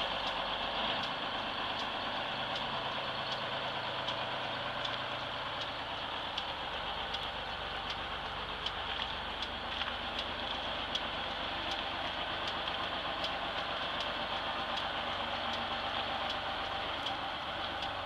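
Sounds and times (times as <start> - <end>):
bus diesel engine running: 0.0 - 18.0
faint regular tick: 0.0 - 18.0.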